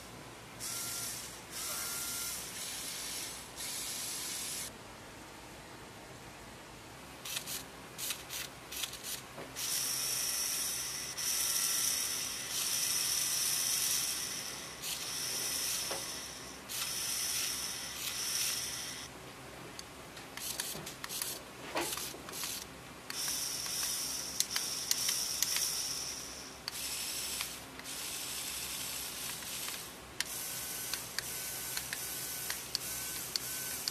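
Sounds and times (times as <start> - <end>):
electric motors whirring: 0.6 - 4.7, 7.3 - 19.1, 20.4 - 33.9.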